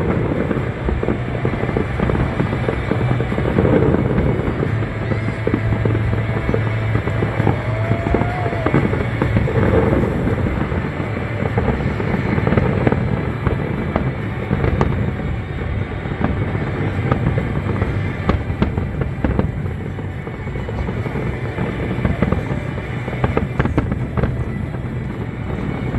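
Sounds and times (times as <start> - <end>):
fireworks bangs and crackles: 0.0 - 25.9
music playing: 0.0 - 25.9.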